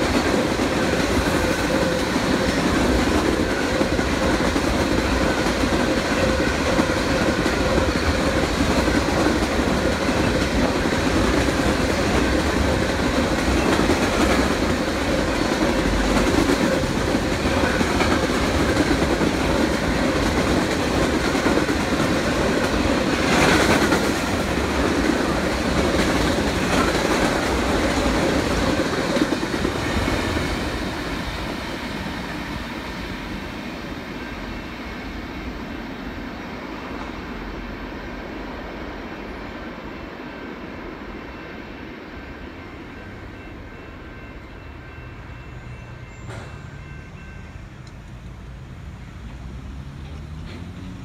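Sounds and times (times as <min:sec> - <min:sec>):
freight train cars rolling past: 0:00.0 - 0:51.0.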